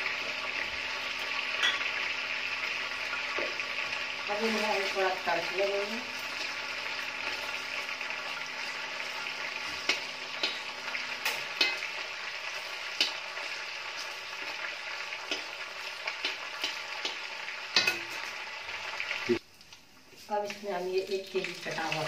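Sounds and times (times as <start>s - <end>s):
spices sizzling in hot oil: 0.0s - 22.0s.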